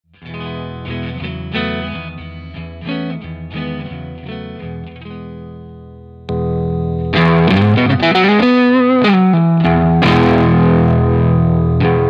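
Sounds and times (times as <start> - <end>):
electric guitar picked notes: 0.2 - 12.0
electric guitar strum: 0.2 - 12.0.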